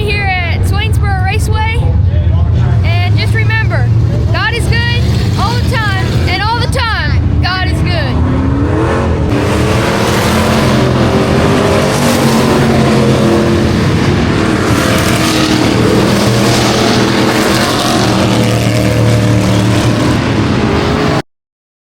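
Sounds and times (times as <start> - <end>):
race car engines: 0.0 - 21.2.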